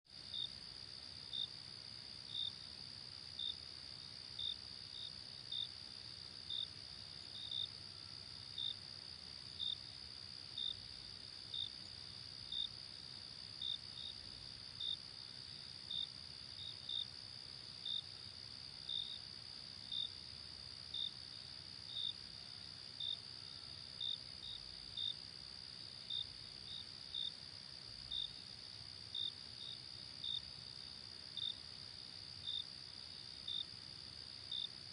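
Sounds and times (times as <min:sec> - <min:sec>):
cricket chirping: 0:00.2 - 0:34.9.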